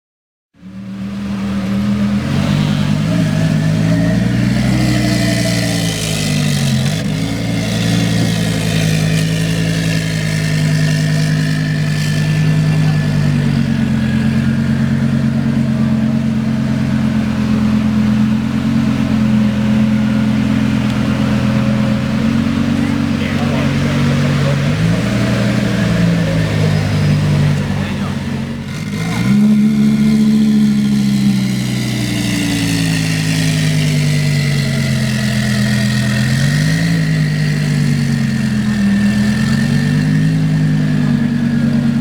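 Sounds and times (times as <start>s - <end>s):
car engine droning: 0.5s - 42.0s.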